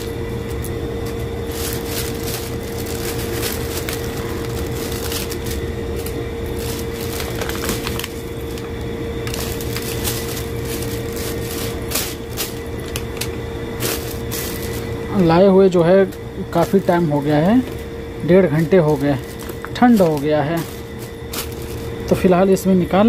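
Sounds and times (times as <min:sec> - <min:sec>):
plastic bag rustling: 0:00.0 - 0:23.0
steady hum: 0:00.0 - 0:23.0.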